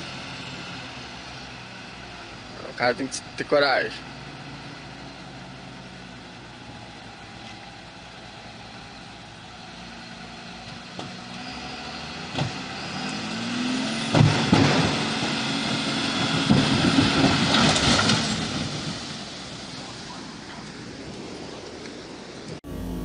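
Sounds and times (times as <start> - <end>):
truck engine under load: 0.0 - 23.0.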